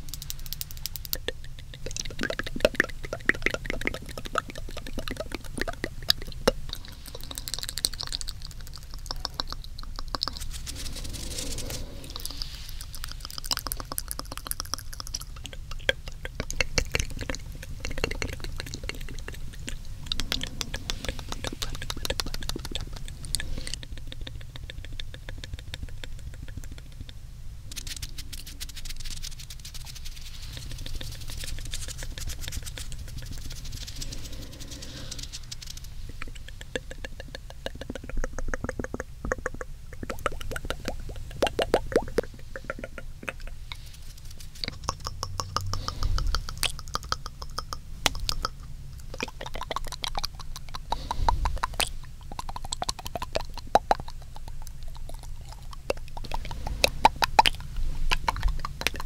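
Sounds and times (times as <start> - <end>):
wet tongue clicks and smacks: 0.0 - 59.0.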